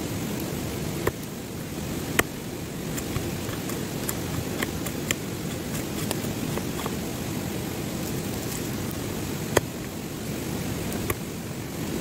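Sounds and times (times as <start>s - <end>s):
waterfall rushing: 0.0s - 12.0s
campfire crackling and snapping: 0.1s - 12.0s.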